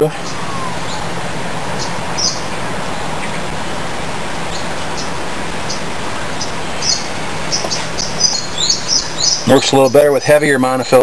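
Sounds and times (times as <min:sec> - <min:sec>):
bird chirping high calls: 0:00.0 - 0:10.0
outdoor background hiss: 0:00.0 - 0:11.0.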